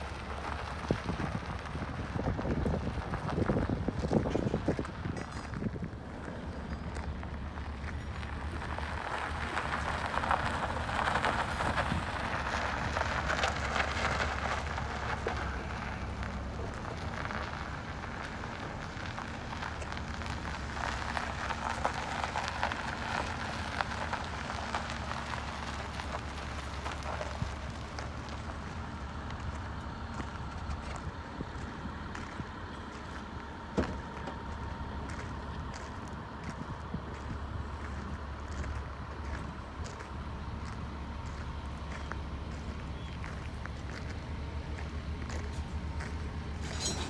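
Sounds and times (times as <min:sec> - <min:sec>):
low engine hum: 0:00.0 - 0:47.0
tyres crunching on gravel: 0:00.0 - 0:47.0.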